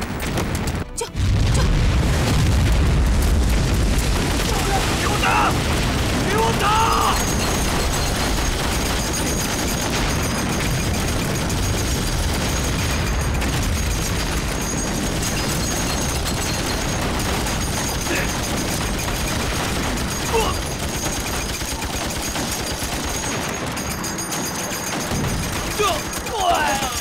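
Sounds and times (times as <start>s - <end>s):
rifles and machine guns firing: 0.0s - 27.0s.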